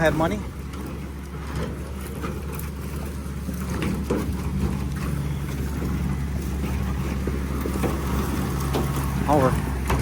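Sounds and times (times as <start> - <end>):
diesel engine running: 0.0 - 10.0
machine knocks and rattles: 0.0 - 10.0.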